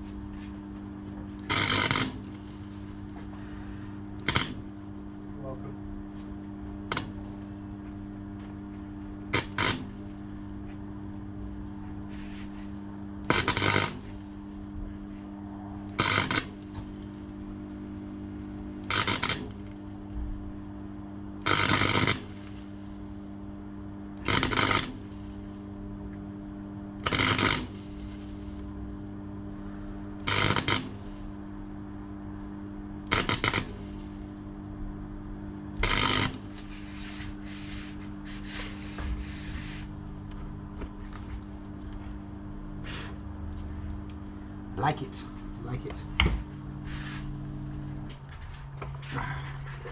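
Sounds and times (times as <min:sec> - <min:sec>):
arc welder crackling: 0:00.0 - 0:49.9
steady low hum: 0:00.0 - 0:49.9.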